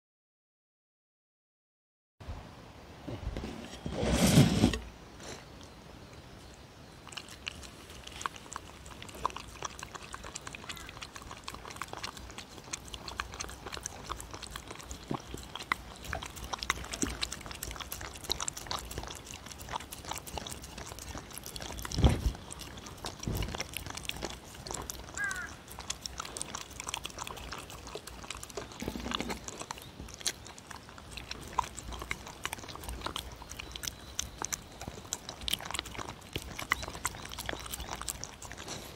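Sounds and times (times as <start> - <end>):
dog licking and chewing wet food: 5.5 - 38.9.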